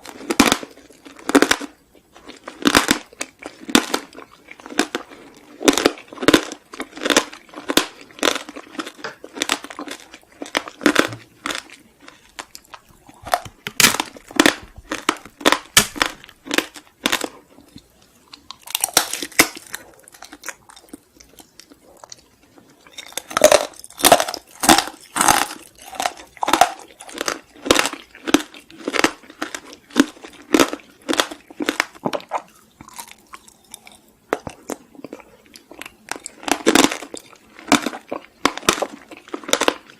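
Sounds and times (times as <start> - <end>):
crunchy chewing of crisp snack: 0.0 - 39.9.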